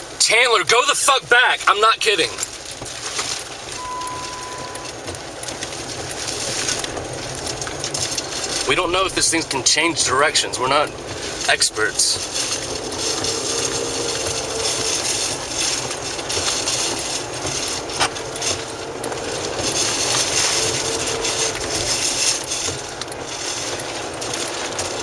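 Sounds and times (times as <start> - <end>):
wind and road noise: 0.0 - 25.0
faint engine hum: 2.4 - 25.0.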